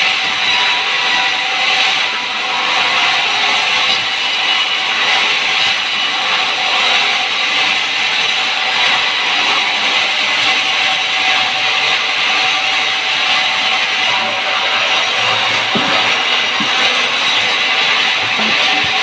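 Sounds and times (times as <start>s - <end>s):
sawmill saw cutting timber: 0.0s - 19.0s.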